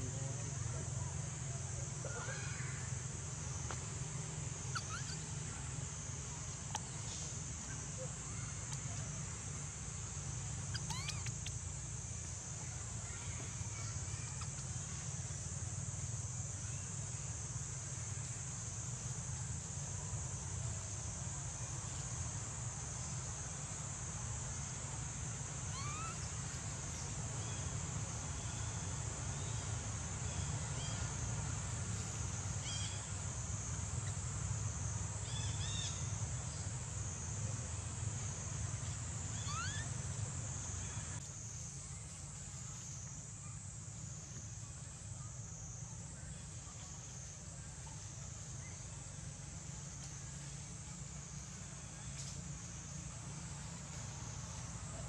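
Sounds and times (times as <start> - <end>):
insect drone: 0.0 - 55.0.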